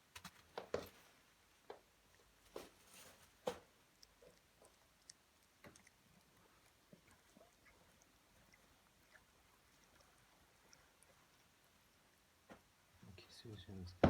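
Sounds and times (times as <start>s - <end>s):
cat licking and chewing: 1.2s - 13.9s.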